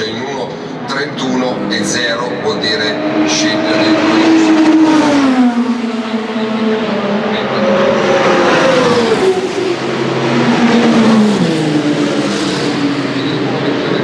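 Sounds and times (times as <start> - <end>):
racing car engines at speed: 0.0 - 14.0.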